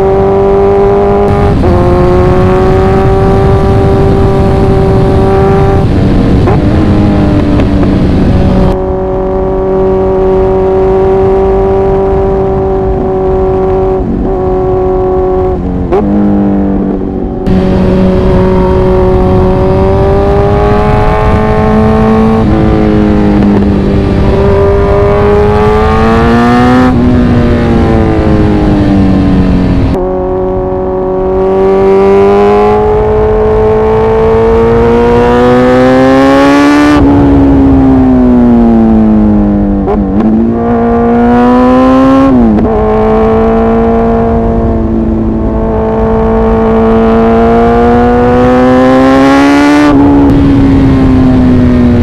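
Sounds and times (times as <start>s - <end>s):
motorcycle engine revving through gears: 0.0s - 52.0s.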